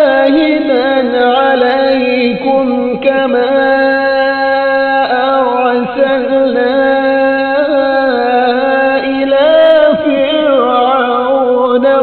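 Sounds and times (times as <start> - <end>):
man chanting melodic recitation: 0.0 - 12.0.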